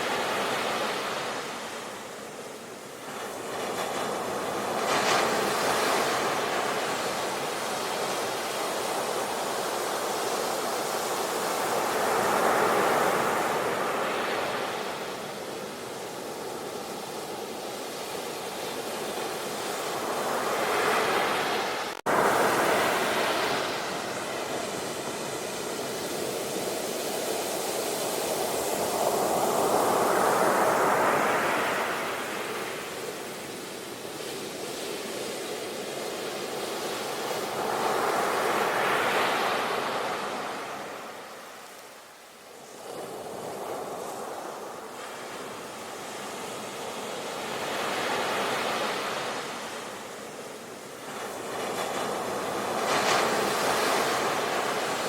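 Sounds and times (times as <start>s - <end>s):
ocean waves breaking: 3.0s - 41.8s, 42.6s - 55.0s.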